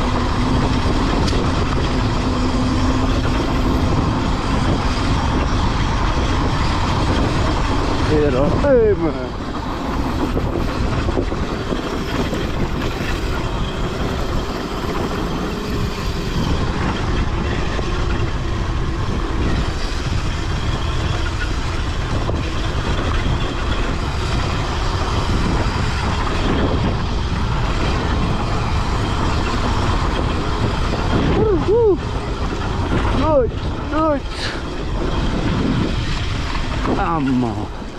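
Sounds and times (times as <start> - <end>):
dirt bike engine running: 0.0 - 37.9
wind rush on microphone: 0.0 - 37.9.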